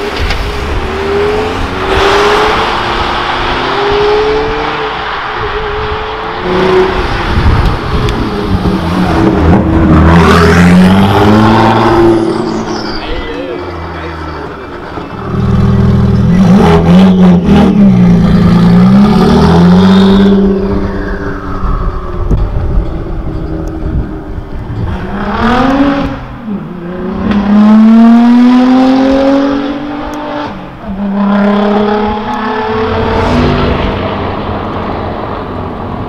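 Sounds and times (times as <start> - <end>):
car engines revving hard: 0.0 - 36.0.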